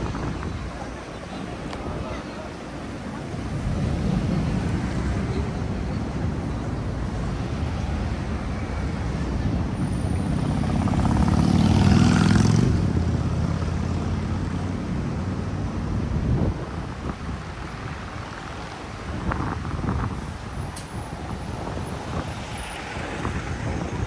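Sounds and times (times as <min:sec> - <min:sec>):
street traffic rumble: 0:00.0 - 0:24.0
heavy vehicle passing: 0:03.2 - 0:16.6, 0:17.8 - 0:24.0.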